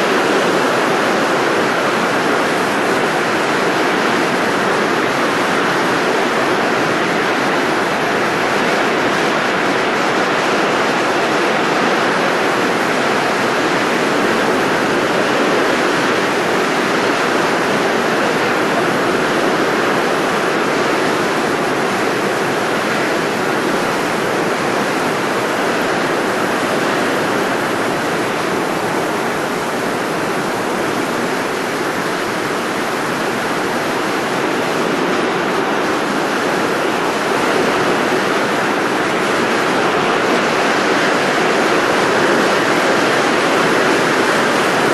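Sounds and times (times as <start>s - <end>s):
blowing rushing noise: 0.0s - 44.9s.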